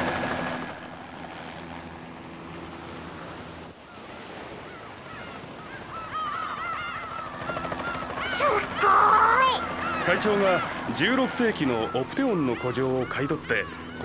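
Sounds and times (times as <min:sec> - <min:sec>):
helicopter rotor noise: 0:00.0 - 0:14.0
wind: 0:00.0 - 0:14.0
birds calling: 0:01.6 - 0:14.0.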